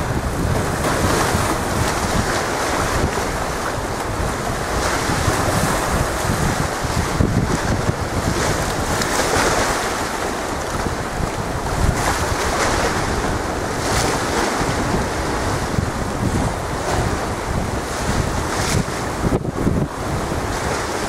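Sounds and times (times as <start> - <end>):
choppy sea washing: 0.0 - 21.0
wind buffeting microphone: 0.0 - 21.0.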